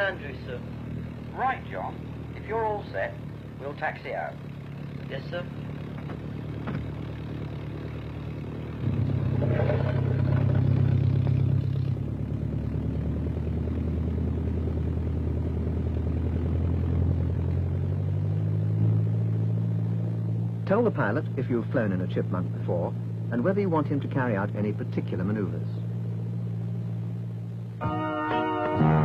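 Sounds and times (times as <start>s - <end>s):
piston aircraft engine running: 0.0s - 29.0s.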